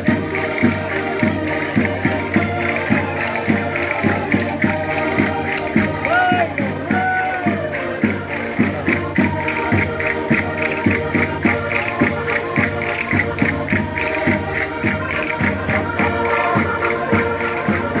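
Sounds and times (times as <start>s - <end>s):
concertinas playing folk dance tune: 0.0s - 18.0s
low percussive beat: 0.0s - 18.0s
sharp percussive clicks: 0.0s - 18.0s.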